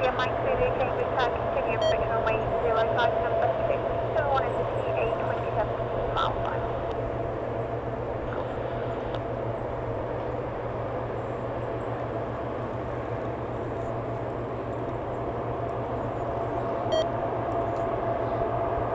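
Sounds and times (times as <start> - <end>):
machine drone humming: 0.0 - 18.9.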